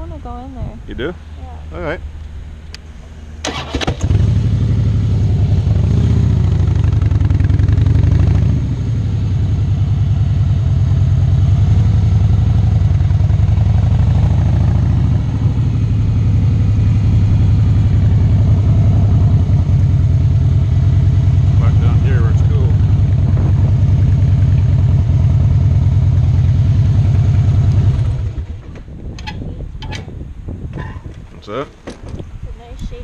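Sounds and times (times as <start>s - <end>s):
motorcycle engine revving: 3.4s - 30.2s.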